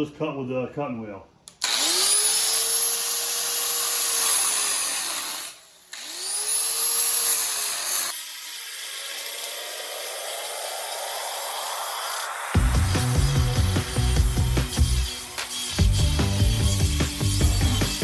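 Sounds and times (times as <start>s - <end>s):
angle grinder cutting steel: 1.6s - 18.0s.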